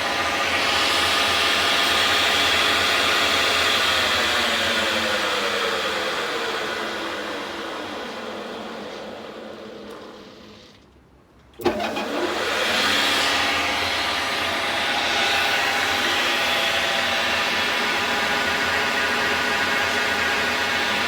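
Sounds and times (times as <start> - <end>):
lathe motor whining: 0.0 - 10.8, 11.6 - 21.0.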